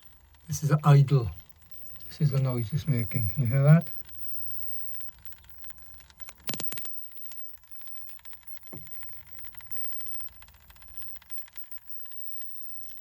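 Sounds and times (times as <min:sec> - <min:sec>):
power inverter electrical buzz: 0:00.0 - 0:13.0
sharp clicks: 0:00.0 - 0:13.0.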